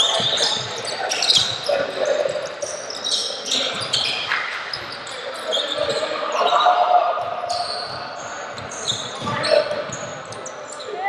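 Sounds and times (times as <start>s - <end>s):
shoe squeaks: 0.0s - 6.8s, 7.4s - 11.0s
players' voices: 0.0s - 11.0s.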